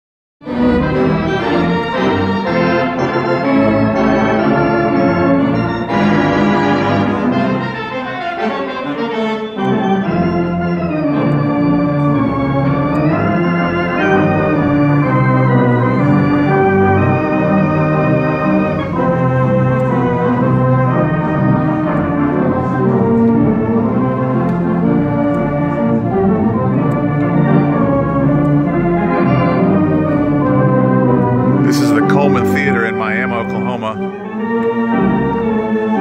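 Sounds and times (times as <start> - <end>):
pipe organ playing chords: 0.5 - 36.0.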